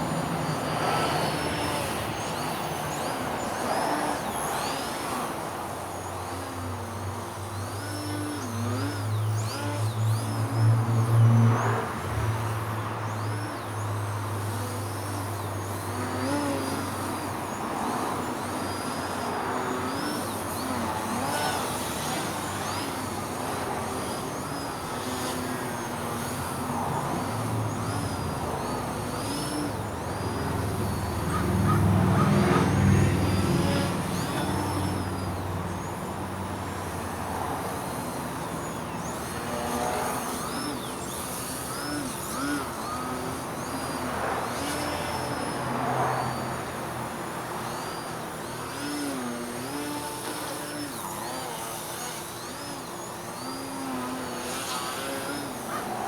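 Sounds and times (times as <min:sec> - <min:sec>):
electric motor and propeller whining: 0:00.0 - 0:56.0.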